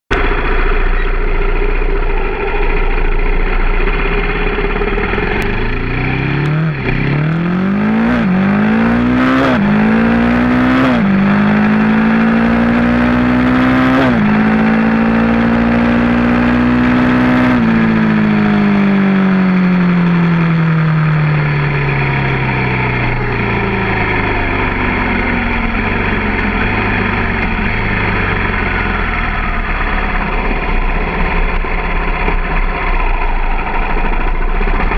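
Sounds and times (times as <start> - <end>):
vehicle engine accelerating through gears: 0.1 - 34.9
wind and road noise: 0.1 - 34.9.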